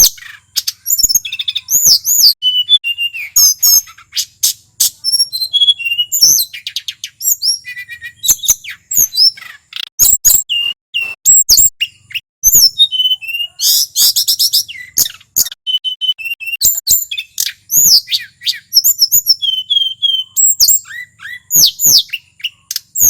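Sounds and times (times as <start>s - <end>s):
bird singing whistled notes: 0.0s - 23.0s.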